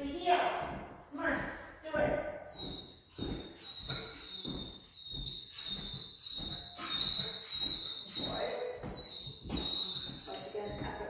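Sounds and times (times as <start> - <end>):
footsteps on laminate floor: 0.0 - 11.0.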